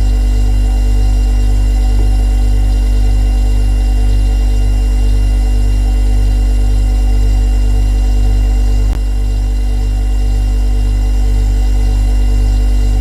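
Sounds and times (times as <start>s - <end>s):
refrigerator compressor hum: 0.0s - 13.0s.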